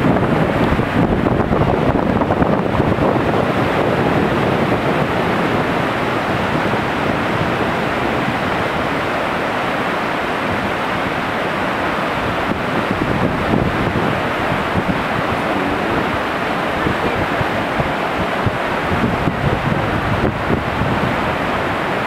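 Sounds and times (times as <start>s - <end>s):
whitewater rushing: 0.0s - 22.0s
wind rumbling on microphone: 0.0s - 22.0s.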